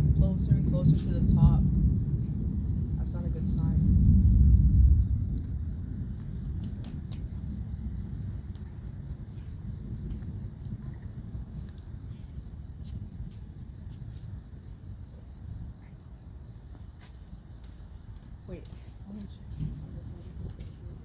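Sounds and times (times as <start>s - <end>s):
distant thunder rumbling: 0.0s - 15.8s, 18.3s - 21.0s
crickets chirping: 0.0s - 21.0s.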